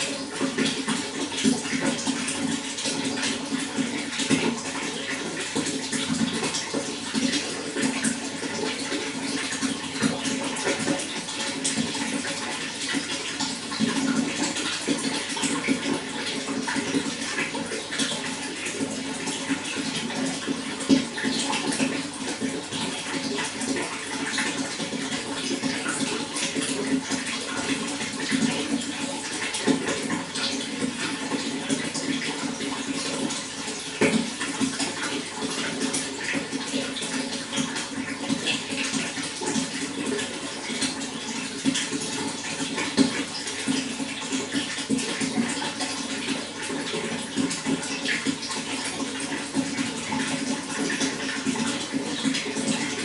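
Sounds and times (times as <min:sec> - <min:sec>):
running water splashing: 0:00.0 - 0:53.0.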